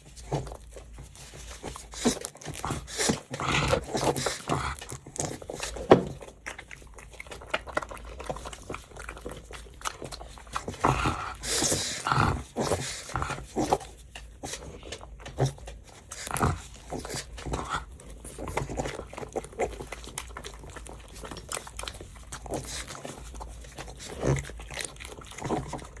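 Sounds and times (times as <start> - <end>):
dog chewing and crunching: 0.0 - 26.0.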